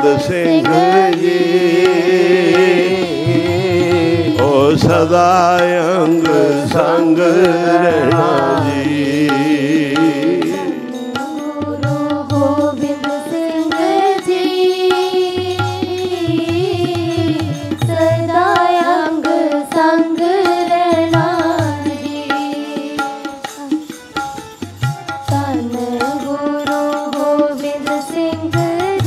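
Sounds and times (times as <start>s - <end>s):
person singing: 0.0s - 23.8s
harmonium: 0.0s - 29.0s
tabla drum strokes: 0.0s - 29.0s.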